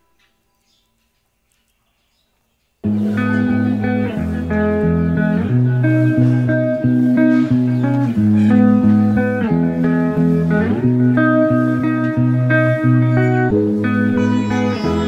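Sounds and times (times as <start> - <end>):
guitar instrumental: 2.8 - 15.0
bass line: 2.9 - 15.0.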